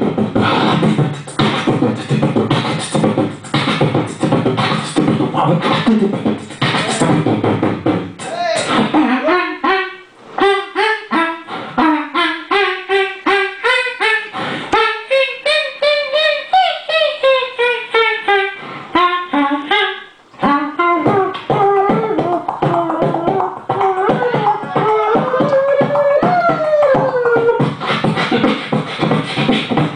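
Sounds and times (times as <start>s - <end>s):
person beatboxing: 0.0s - 29.9s.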